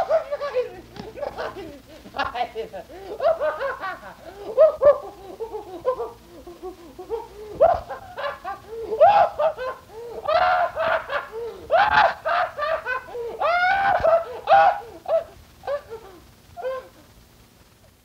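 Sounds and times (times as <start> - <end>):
high-pitched laugh-like cries: 0.0 - 17.1.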